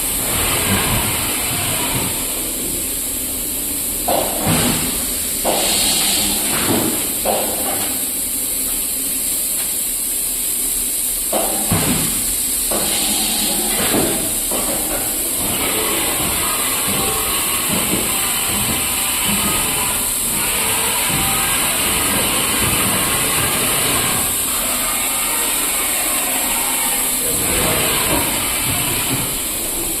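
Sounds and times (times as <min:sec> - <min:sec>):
machining center high hiss: 0:00.0 - 0:30.0.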